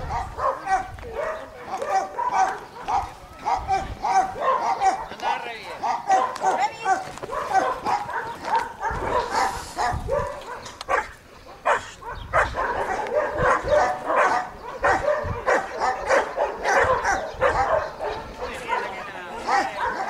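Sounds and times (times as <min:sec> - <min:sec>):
dog barking: 0:00.0 - 0:20.0.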